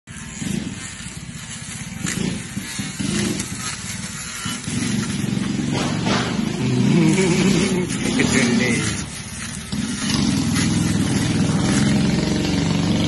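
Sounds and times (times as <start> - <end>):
hedge trimmer buzzing: 0.1 - 13.0.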